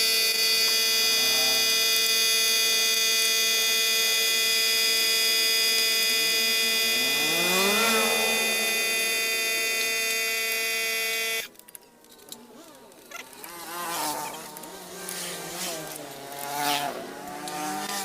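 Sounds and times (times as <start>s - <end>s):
small motor buzzing whine: 0.0s - 18.0s.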